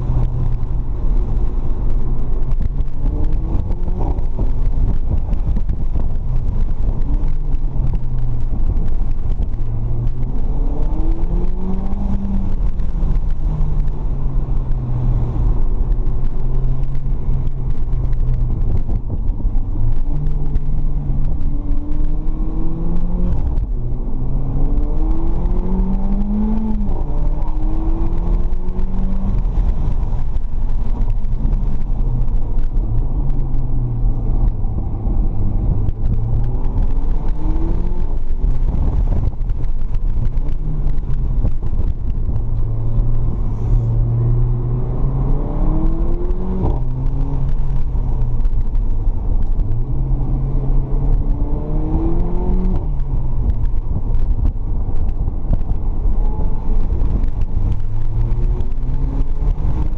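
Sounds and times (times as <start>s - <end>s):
car engine accelerating: 0.0s - 59.9s
road and wind rumble: 0.0s - 59.9s.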